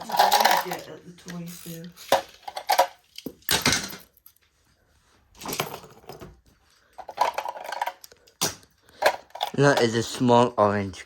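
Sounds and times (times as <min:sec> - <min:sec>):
rustling and clatter of small objects: 0:00.0 - 0:11.0.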